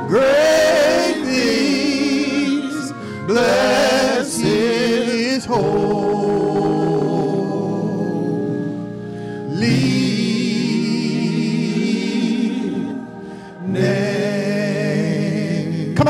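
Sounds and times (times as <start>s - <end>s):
gospel choir singing: 0.0s - 16.0s
sustained accompaniment: 0.0s - 16.0s.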